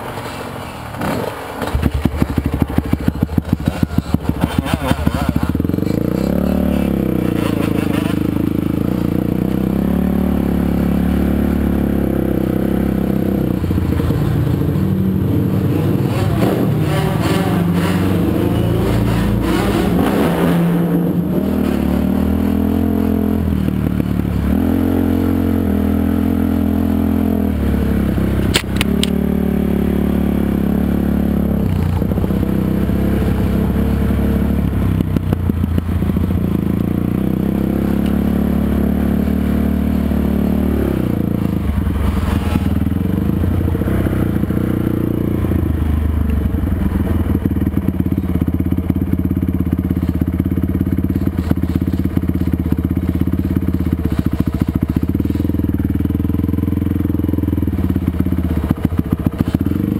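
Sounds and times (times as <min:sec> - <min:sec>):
quad engine revving: 0:00.9 - 0:59.9.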